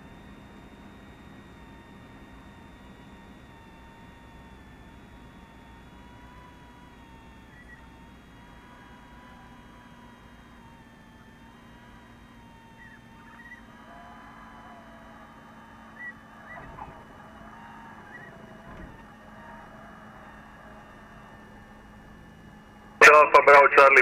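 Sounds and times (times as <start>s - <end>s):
aircraft engine humming: 0.0s - 24.0s.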